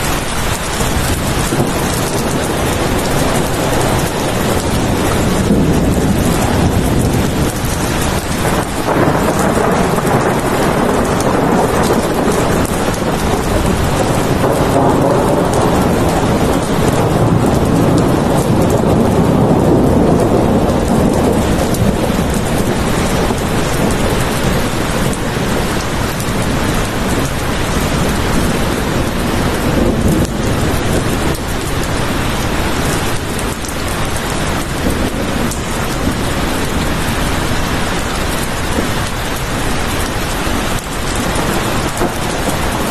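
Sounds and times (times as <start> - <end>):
heavy rain: 0.0 - 42.9
low rumble of thunder: 0.0 - 42.9.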